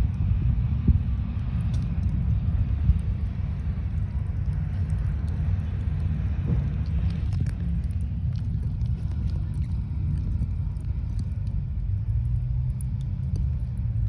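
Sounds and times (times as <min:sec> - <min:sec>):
coal crackling and ticking: 0:00.0 - 0:14.0
low rumble: 0:00.0 - 0:14.0.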